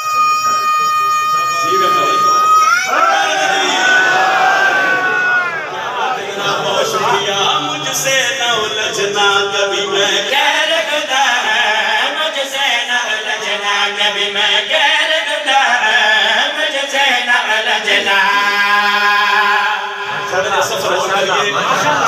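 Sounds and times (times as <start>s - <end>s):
man chanting melodically: 0.0s - 2.6s, 5.9s - 22.0s.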